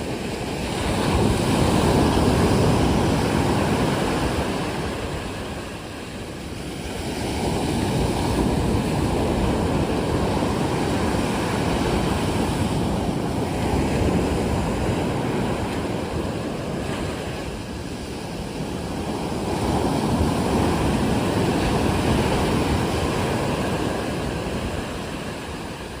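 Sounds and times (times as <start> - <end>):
sea waves surging onto shore: 0.0 - 26.0.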